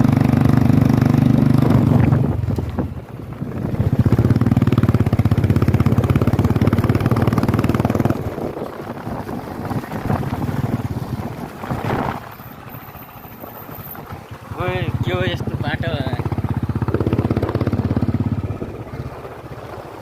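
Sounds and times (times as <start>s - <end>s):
motorcycle engine running hard: 0.0s - 20.0s.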